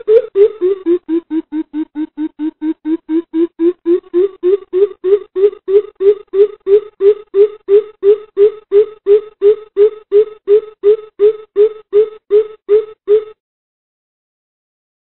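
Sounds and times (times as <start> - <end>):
bird deep hooting call: 0.0 - 13.4.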